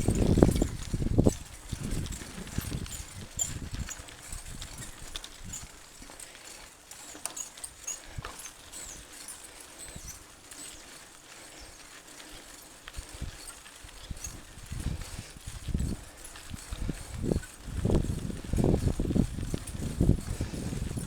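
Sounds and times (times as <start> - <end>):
bike clicks and knocks on trail: 0.0 - 21.0.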